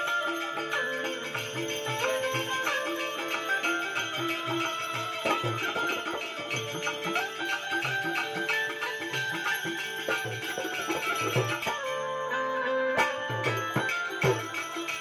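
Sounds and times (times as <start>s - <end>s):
jingling percussion: 0.0s - 15.0s
sustained melodic instrument: 0.0s - 15.0s.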